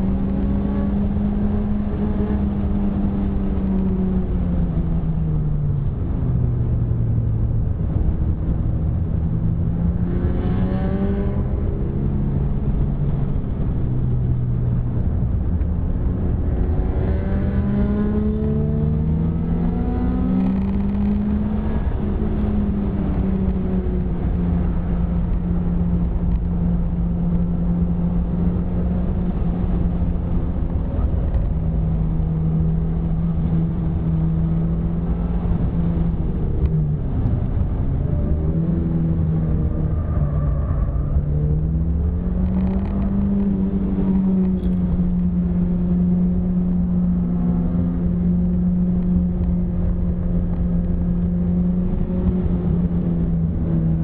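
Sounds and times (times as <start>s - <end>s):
road and tyre rumble: 0.0s - 54.0s
car engine revving: 7.6s - 54.0s.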